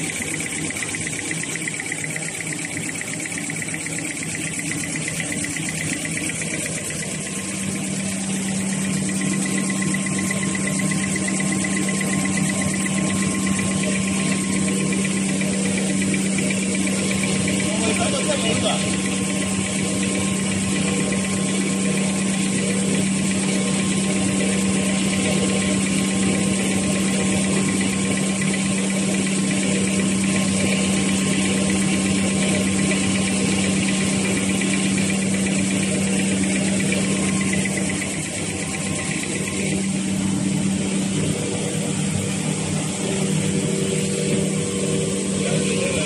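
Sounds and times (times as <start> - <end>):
constant low hum: 0.0 - 46.0
tissue folding machine running: 0.0 - 46.0.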